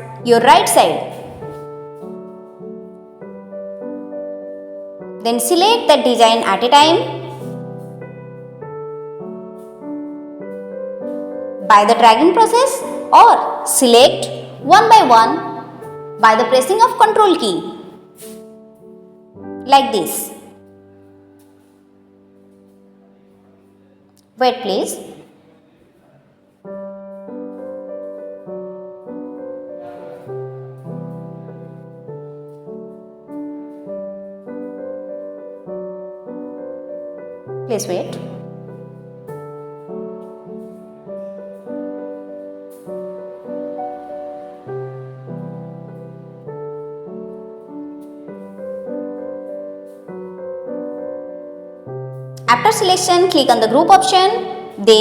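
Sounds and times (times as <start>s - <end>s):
slow piano music: 0.0s - 55.0s.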